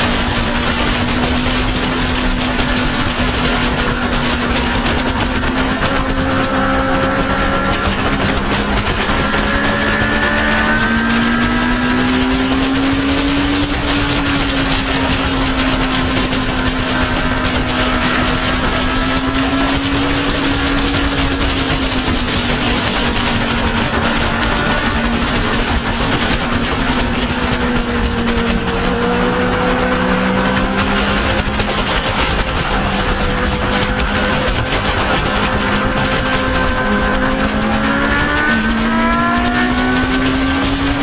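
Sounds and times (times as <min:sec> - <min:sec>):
motorcycle engine cruising: 0:00.0 - 0:41.0
wind noise rushing: 0:00.0 - 0:41.0.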